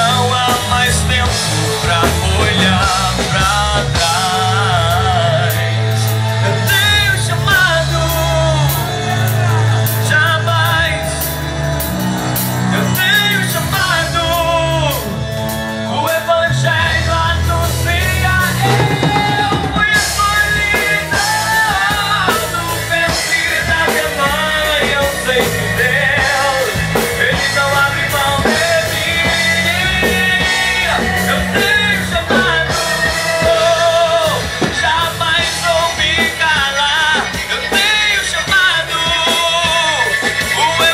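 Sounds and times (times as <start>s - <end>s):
person singing: 0.0s - 40.9s
rock band playing a song: 0.0s - 40.9s.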